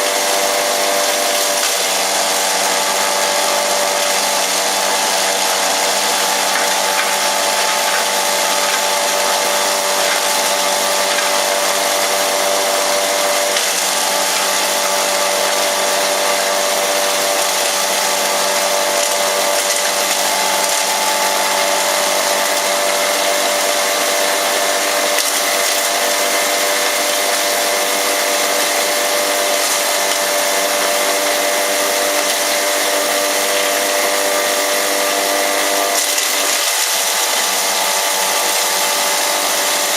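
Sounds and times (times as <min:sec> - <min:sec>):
herb grinder whirring: 0:00.0 - 0:39.9.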